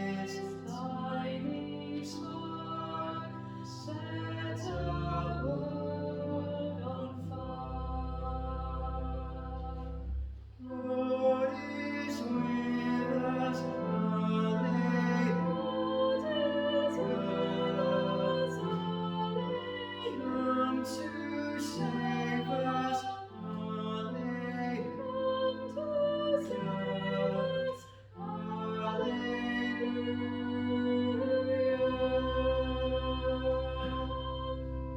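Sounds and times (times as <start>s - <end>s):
hymn singing with chords: 0.0s - 34.9s.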